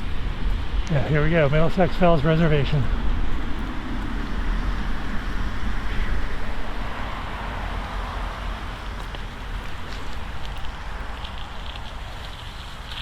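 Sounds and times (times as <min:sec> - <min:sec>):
bicycle road noise: 0:00.0 - 0:13.0
wind buffeting microphone: 0:00.0 - 0:13.0.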